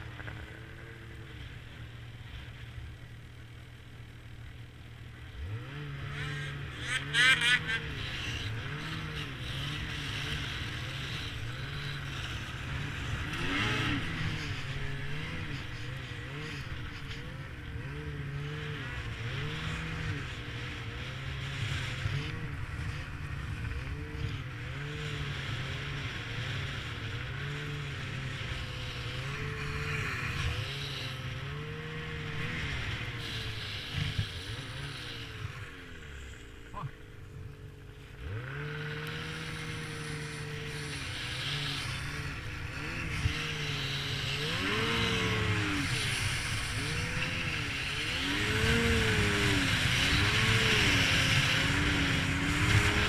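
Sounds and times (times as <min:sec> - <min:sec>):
snowmobile engine: 0:00.0 - 0:53.0.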